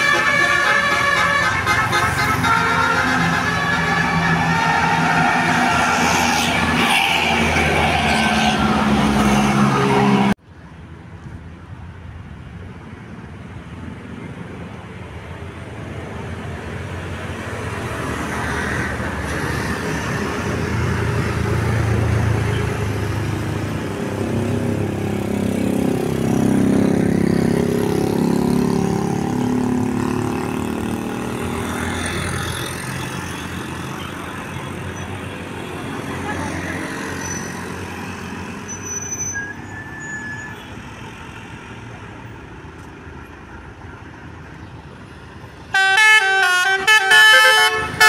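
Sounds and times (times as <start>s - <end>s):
bus engine passing: 0.0s - 38.8s, 40.7s - 48.0s.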